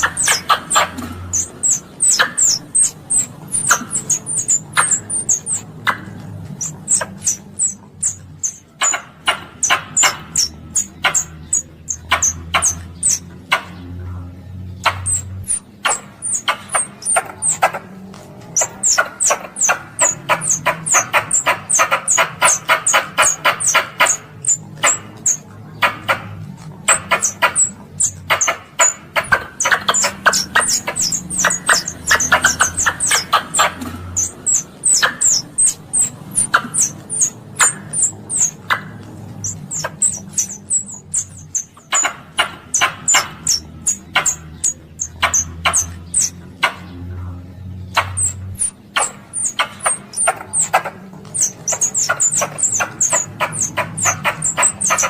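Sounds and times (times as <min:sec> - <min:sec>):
squirrel high-pitched chirps: 0:00.0 - 0:13.7, 0:14.8 - 0:17.9, 0:18.5 - 0:46.8, 0:47.8 - 0:55.0
squirrel rattling chatter: 0:00.0 - 0:55.0.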